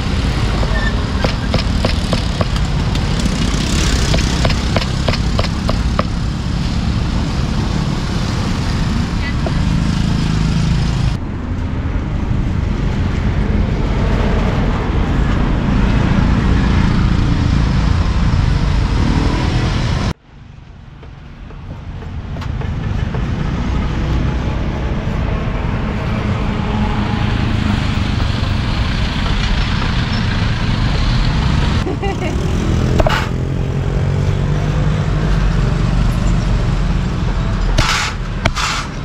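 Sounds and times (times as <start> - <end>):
street traffic noise: 0.0 - 39.0.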